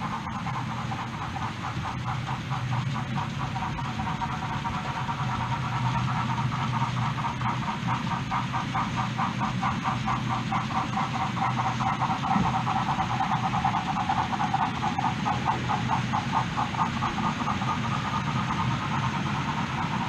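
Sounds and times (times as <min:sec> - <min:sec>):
model train running on track: 0:00.0 - 0:20.0.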